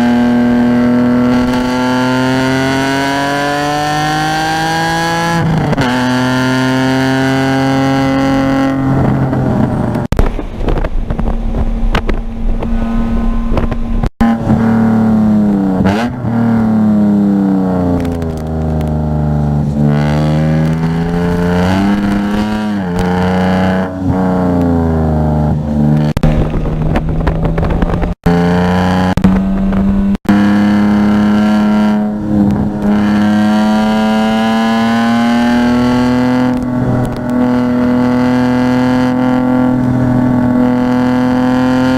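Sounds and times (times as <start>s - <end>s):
car engine accelerating and braking: 0.0s - 41.9s.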